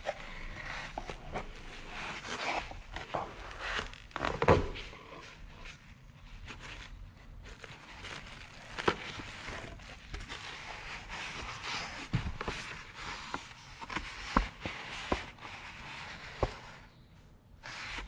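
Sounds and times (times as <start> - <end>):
packaging rustling: 0.0 - 16.8.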